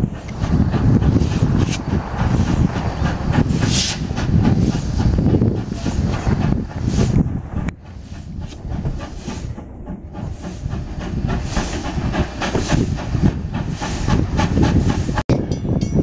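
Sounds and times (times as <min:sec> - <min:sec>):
steam locomotive exhaust chuffing: 0:00.0 - 0:16.0.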